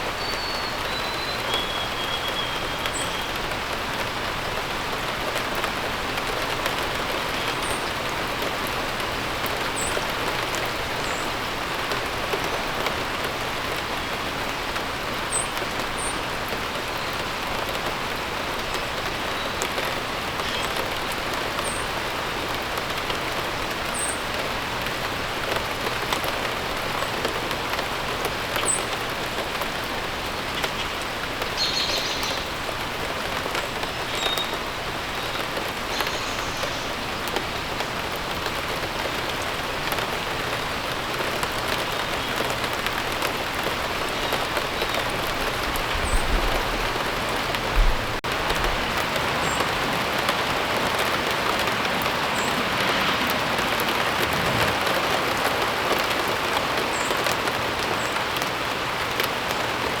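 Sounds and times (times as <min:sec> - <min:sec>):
steady rain hissing: 0:00.0 - 1:00.0.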